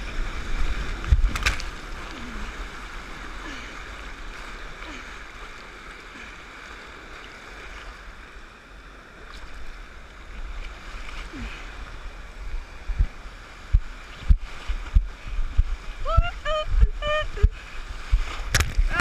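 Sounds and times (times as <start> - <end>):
shallow surf washing: 0.0 - 19.0.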